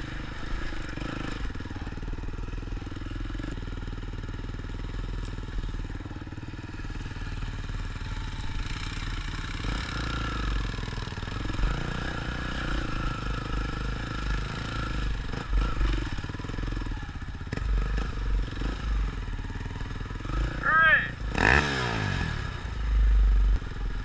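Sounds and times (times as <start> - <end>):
quad bike engine under load: 0.0 - 24.0.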